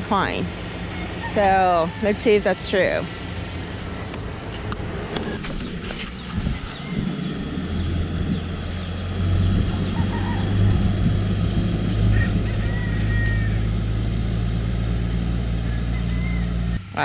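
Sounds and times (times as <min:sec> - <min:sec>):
motorhome engine under load: 0:00.0 - 0:17.0.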